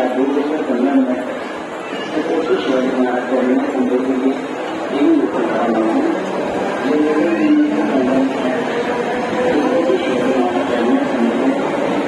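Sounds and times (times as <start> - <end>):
train wheels rushing: 0.0 - 12.0
train humming tones: 1.2 - 12.0.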